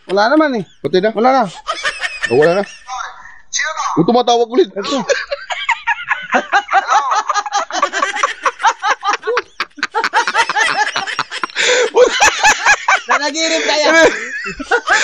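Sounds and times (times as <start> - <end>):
men laughing: 0.4 - 2.9, 4.6 - 15.0.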